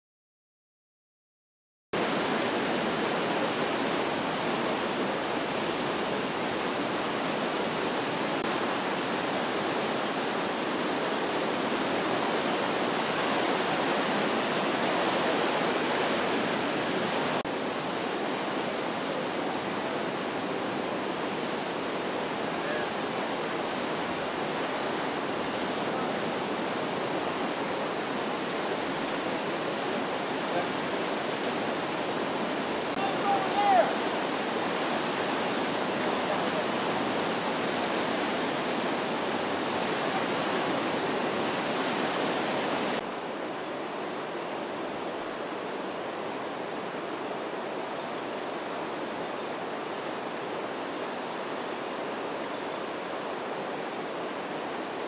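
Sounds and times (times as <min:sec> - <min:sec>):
rushing floodwater in creek: 0:02.0 - 0:55.0.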